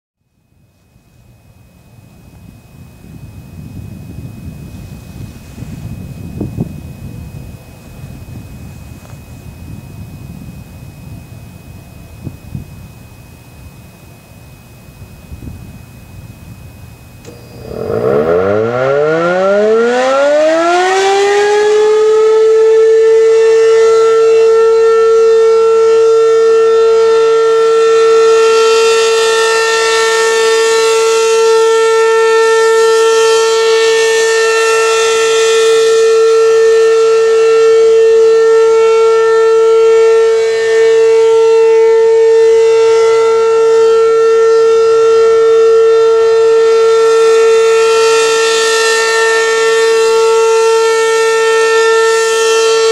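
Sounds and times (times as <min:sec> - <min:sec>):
outdoor warning siren wailing: 0:00.4 - 0:52.9.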